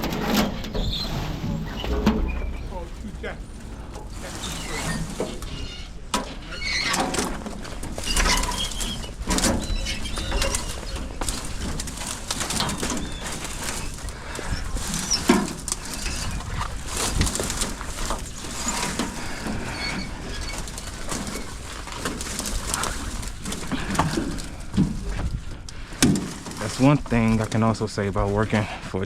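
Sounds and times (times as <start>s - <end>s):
branches rustling and crackling: 0.0s - 29.0s.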